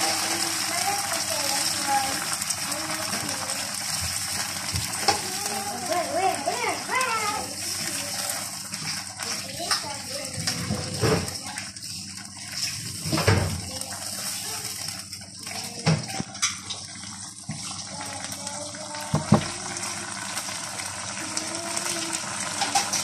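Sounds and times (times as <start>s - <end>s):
chili paste sizzling in oil: 0.0s - 23.0s.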